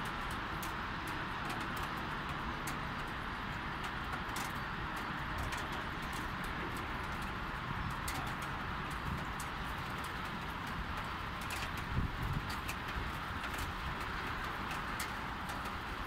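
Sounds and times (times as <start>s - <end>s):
distant traffic rumble: 0.0s - 16.0s
light rain hiss: 0.0s - 16.0s
raindrops tapping: 0.0s - 16.0s.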